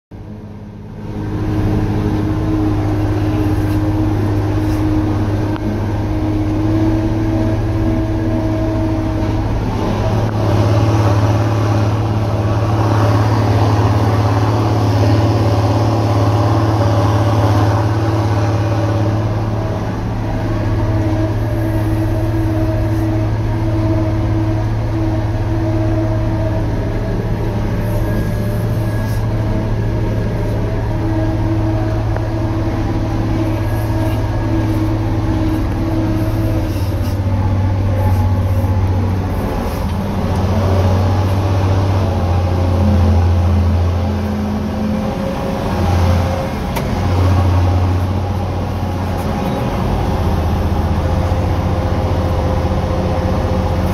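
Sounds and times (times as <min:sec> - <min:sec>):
combine harvester engine drone: 0:00.1 - 0:53.9.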